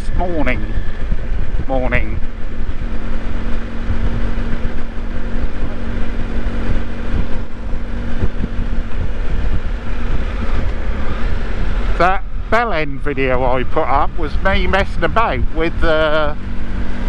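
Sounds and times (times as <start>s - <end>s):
vehicle humming on the move: 0.0s - 17.0s
wind rumble on microphone: 0.0s - 17.0s.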